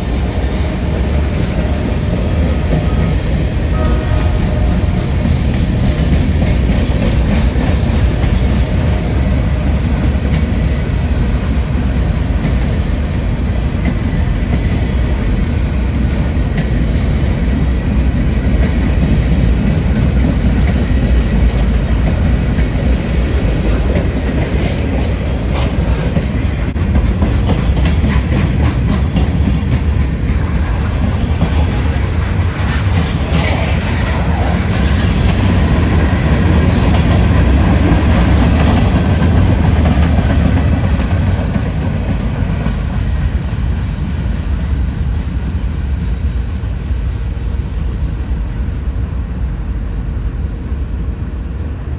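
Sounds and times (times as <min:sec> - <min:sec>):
wheels clicking over rail joints: 0:00.0 - 0:45.4
freight train rumbling past: 0:00.0 - 0:51.9.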